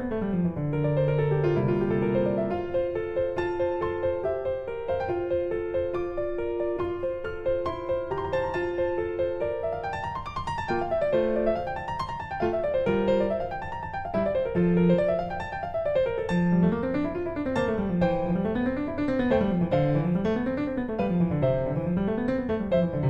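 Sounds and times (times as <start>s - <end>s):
piano music with arpeggios: 0.0s - 23.0s.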